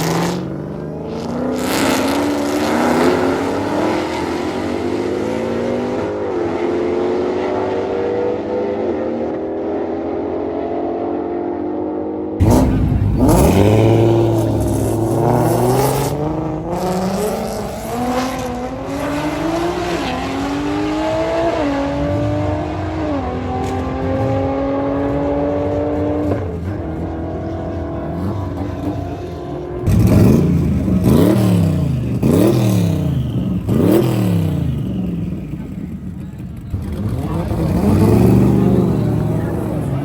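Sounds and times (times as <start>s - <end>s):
engine revving: 0.0s - 10.3s, 12.4s - 40.0s
car engine accelerating: 0.0s - 40.0s.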